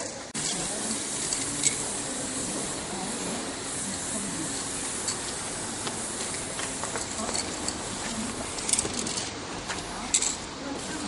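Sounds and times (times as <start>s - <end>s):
spray-paint can hissing: 0.4s - 9.3s.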